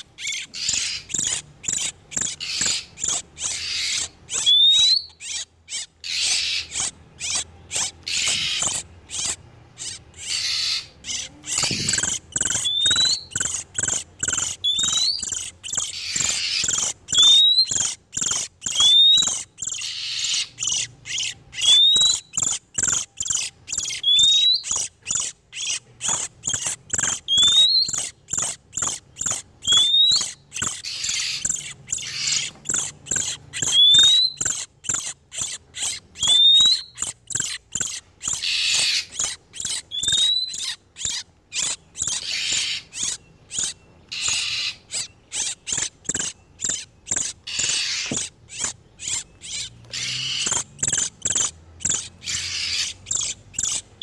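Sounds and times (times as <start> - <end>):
birds harsh chattering: 0.0 - 54.0.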